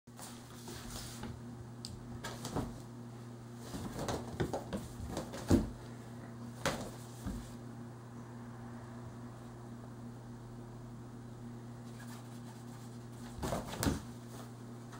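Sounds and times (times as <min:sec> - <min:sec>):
steady low hum: 0:00.1 - 0:14.9.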